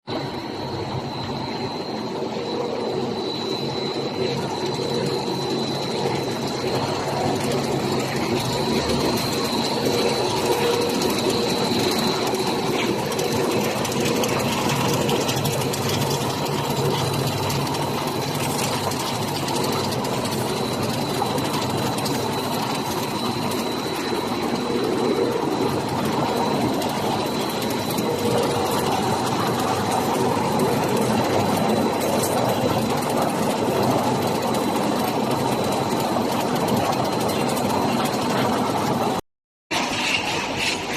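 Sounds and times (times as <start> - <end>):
machinery clatter: 0.1 - 40.9
thin high whine: 0.1 - 40.9.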